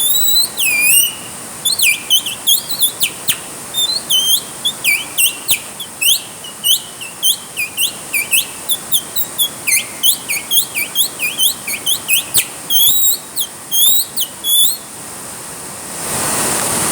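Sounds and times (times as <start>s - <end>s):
bird chirping: 0.0s - 14.9s
rain hissing: 0.0s - 16.9s.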